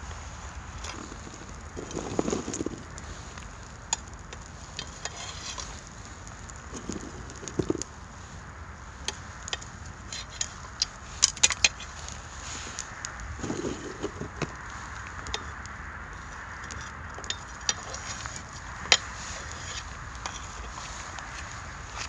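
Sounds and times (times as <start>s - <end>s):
pine cones crackling and popping: 0.0s - 22.0s.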